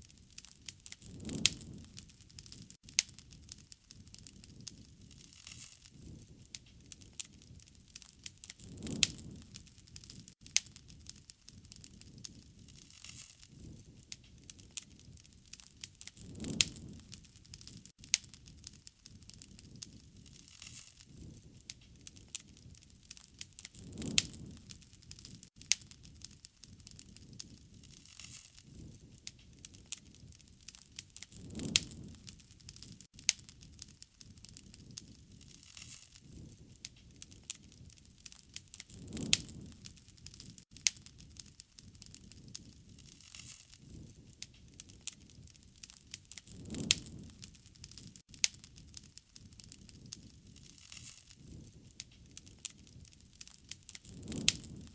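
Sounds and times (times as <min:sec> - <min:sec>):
fire pops and snaps: 0:00.0 - 0:54.9
wood fire crackling: 0:00.0 - 0:54.9.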